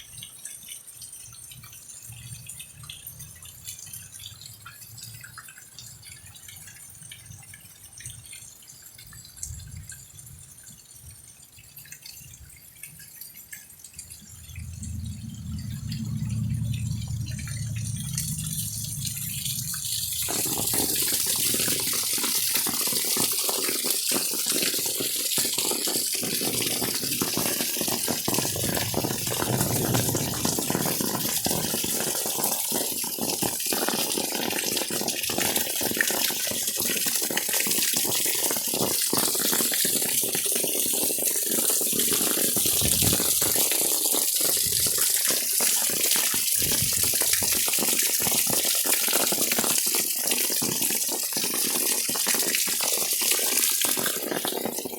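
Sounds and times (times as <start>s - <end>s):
rain and running water: 0.0s - 54.9s
crackle of drops: 0.1s - 54.9s.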